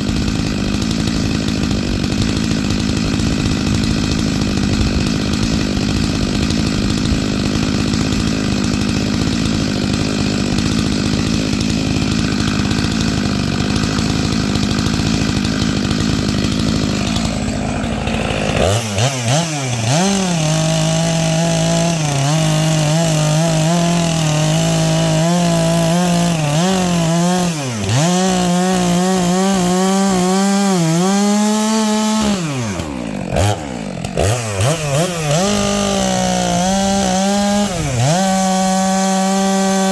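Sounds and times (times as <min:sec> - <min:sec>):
chainsaw cutting wood: 0:00.0 - 0:39.9
chainsaw engine running: 0:00.0 - 0:39.9.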